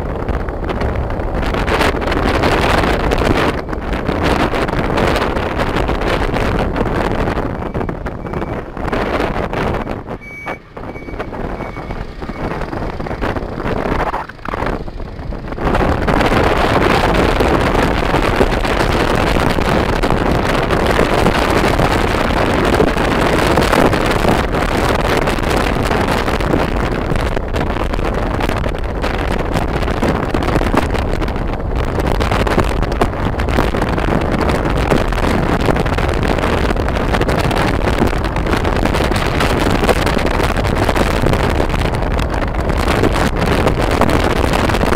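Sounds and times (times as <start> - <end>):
motorbike road and engine noise: 0.0 - 44.9
wind rushing over microphone: 0.0 - 44.9.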